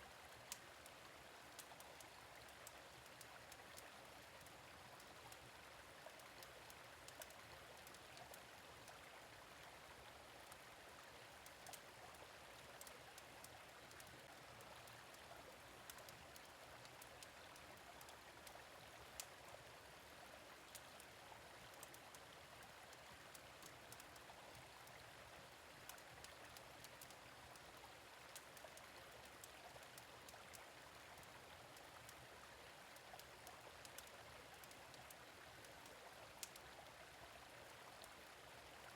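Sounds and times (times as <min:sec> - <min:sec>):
gentle stream flowing: 0:00.0 - 0:38.9.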